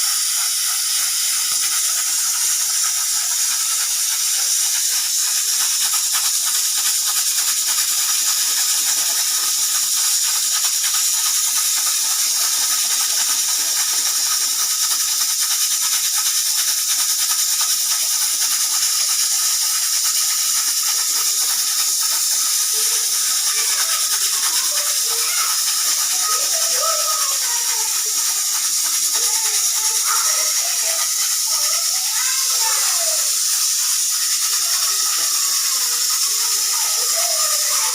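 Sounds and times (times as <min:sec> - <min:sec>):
pressure cooker hissing: 0:00.0 - 0:37.9.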